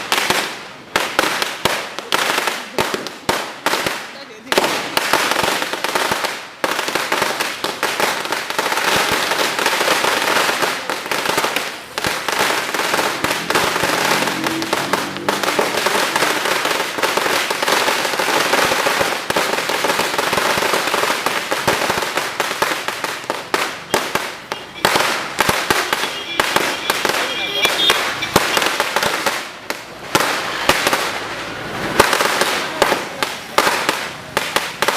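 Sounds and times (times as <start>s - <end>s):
firecrackers cracking: 0.0s - 34.9s.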